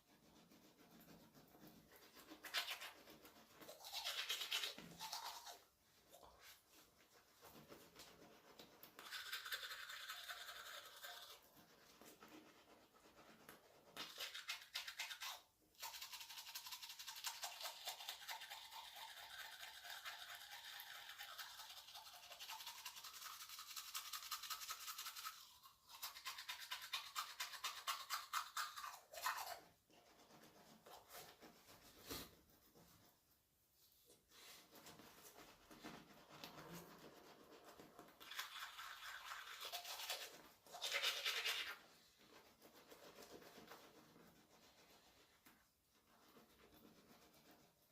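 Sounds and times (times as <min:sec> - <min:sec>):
toothbrush scrubbing teeth: 0:00.0 - 0:33.1, 0:34.0 - 0:47.9.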